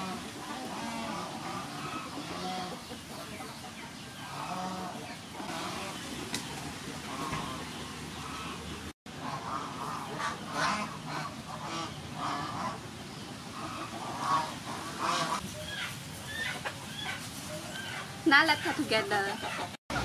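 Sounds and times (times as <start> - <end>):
poultry calling: 0.0 - 19.8.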